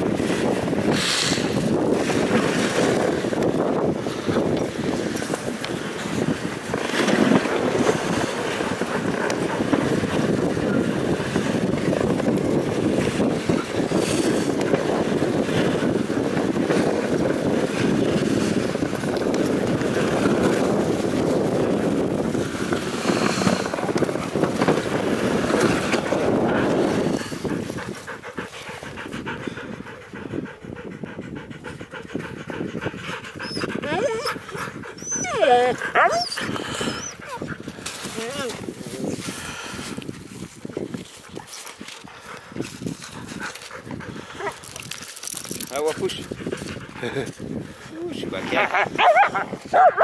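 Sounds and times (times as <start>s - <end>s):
sled rushing over snow: 0.0s - 29.9s, 32.9s - 50.0s
wind on microphone: 0.0s - 50.0s
dogs panting: 1.5s - 38.7s, 39.8s - 50.0s.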